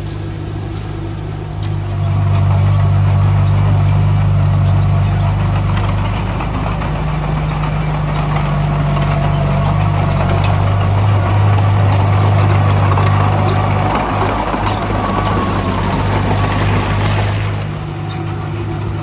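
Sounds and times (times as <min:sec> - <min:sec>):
heavy machinery diesel engine droning: 0:00.0 - 0:19.0
light metallic clatter: 0:00.0 - 0:19.0.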